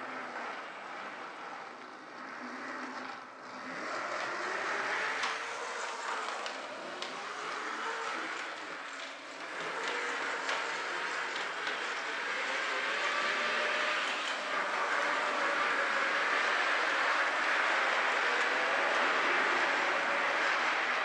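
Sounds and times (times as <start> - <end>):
model trams whirring on track: 0.0 - 21.0.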